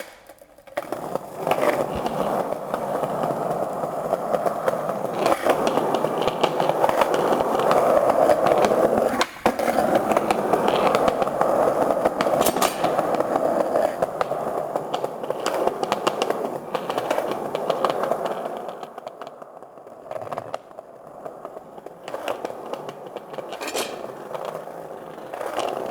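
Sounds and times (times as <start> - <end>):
skate wheels rolling on pavement: 0.0 - 25.9.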